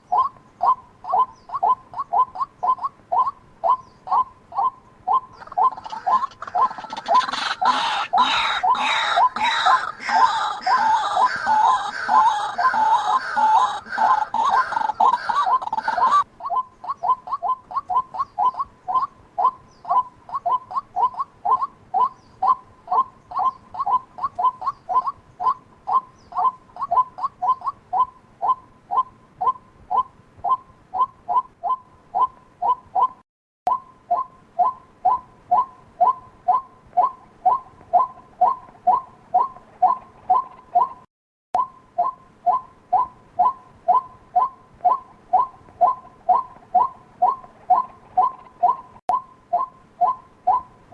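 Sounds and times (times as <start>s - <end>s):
waterhen calling: 0.0s - 50.8s.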